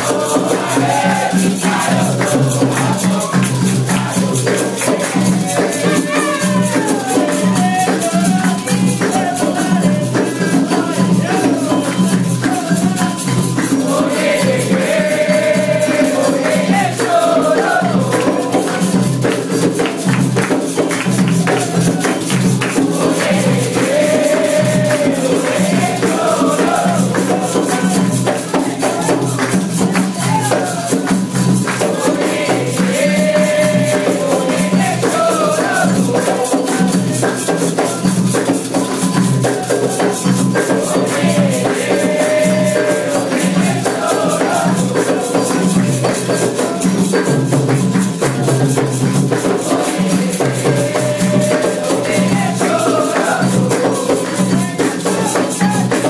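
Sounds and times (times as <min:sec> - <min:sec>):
hand drums rhythm: 0:00.0 - 0:56.0
hand-claps: 0:00.0 - 0:56.0.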